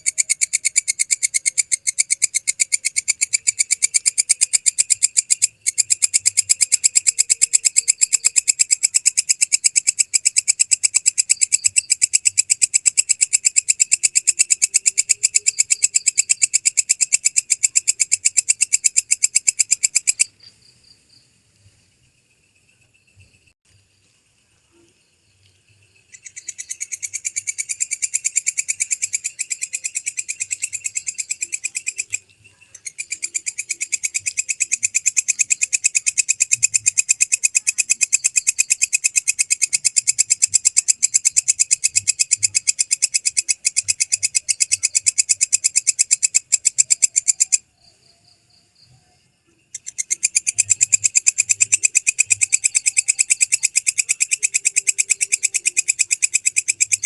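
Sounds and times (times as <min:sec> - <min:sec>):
katydid ticking song: 0:00.0 - 0:20.5, 0:26.0 - 0:48.1, 0:49.6 - 0:57.0.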